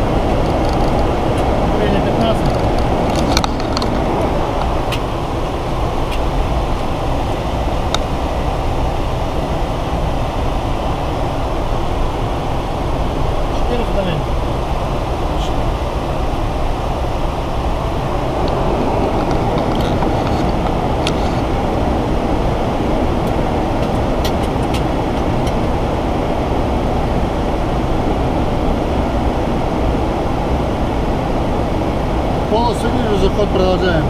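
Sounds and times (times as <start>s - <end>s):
aircraft running noise: 0.0s - 34.0s
airflow over aircraft cockpit: 0.0s - 34.0s.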